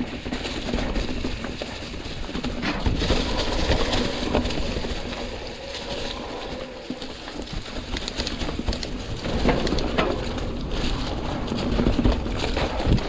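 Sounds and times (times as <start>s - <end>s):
bike knocking and rattling: 0.0s - 13.0s
continuous low rumble: 0.0s - 13.0s
tyres crunching dry leaves: 0.0s - 13.0s.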